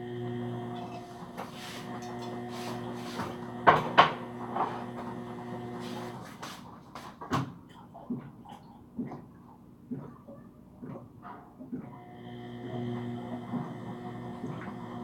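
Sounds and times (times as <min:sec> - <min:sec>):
washing machine motor hum: 0:00.0 - 0:07.0, 0:07.9 - 0:15.0.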